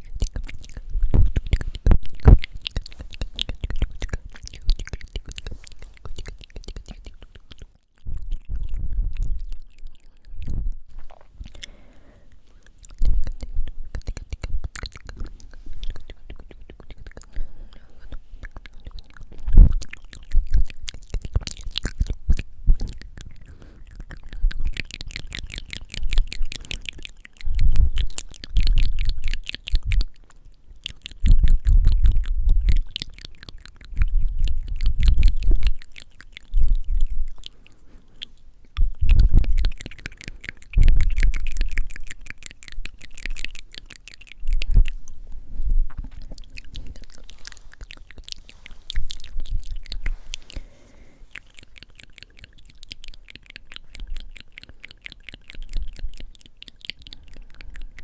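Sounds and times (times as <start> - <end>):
wet mouth clicks and smacks: 0.0 - 58.0.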